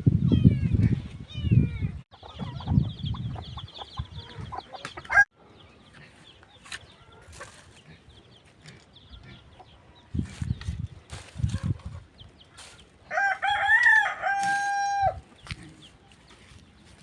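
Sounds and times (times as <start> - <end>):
chickens clucking: 2.1 - 17.0.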